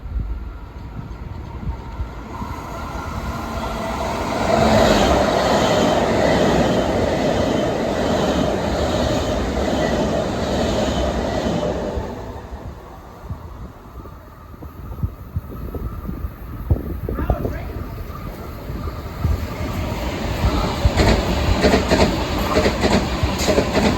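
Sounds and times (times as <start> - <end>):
train wheels rushing on rail: 0.0 - 23.9.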